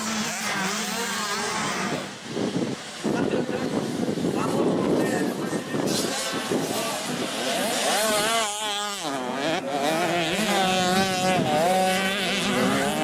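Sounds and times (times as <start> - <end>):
two-stroke motocross engines revving: 0.0 - 13.0.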